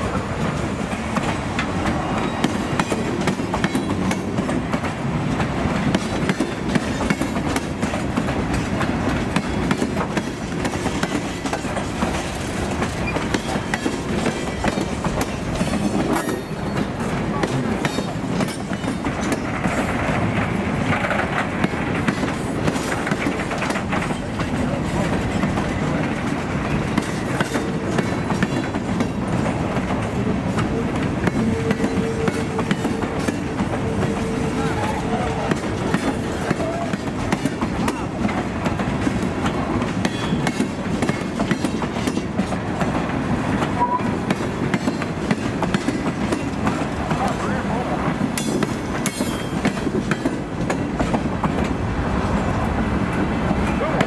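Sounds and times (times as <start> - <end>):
freight train rolling past: 0.0 - 54.0
wheels clicking over rail joints: 0.1 - 54.0.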